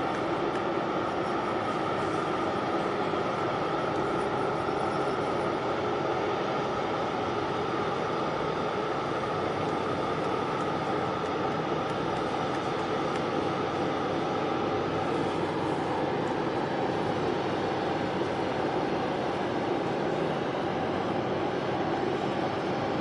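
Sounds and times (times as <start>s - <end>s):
ship machinery drone: 0.0s - 23.0s.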